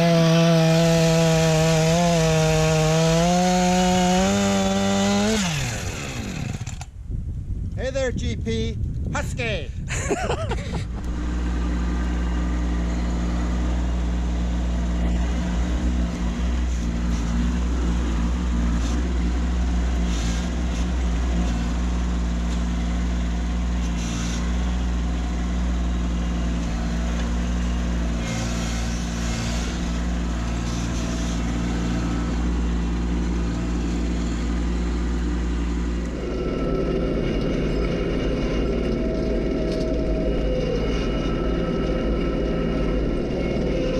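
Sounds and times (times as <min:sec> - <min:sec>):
tractor diesel engine running: 0:02.7 - 0:07.6, 0:10.5 - 0:43.9.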